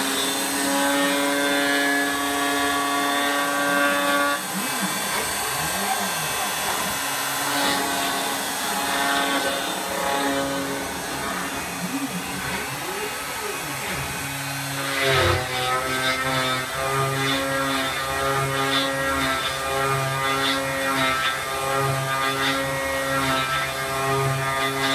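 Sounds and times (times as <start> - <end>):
stepper motors whining: 0.0 - 24.5.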